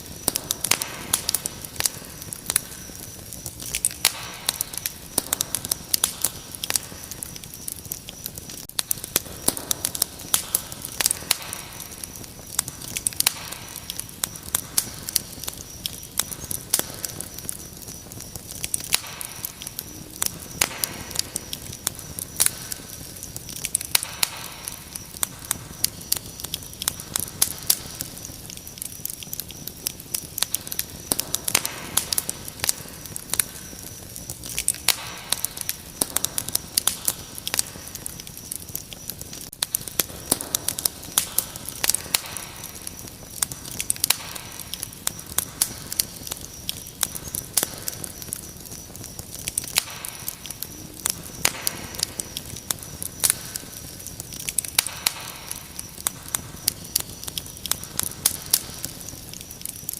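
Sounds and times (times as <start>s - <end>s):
crickets trilling: 0.0s - 59.9s
wood fire crackling and popping: 0.0s - 59.9s.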